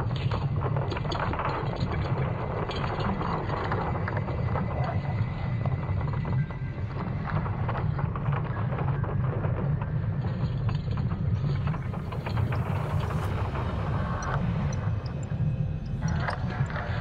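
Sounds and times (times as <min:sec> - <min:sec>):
crackles and clicks: 0:00.0 - 0:17.0
low rumble: 0:00.0 - 0:17.0.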